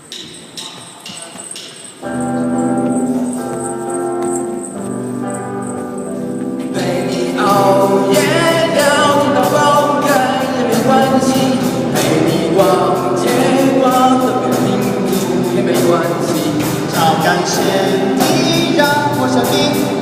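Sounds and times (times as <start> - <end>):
steady beat: 0.0 - 20.0.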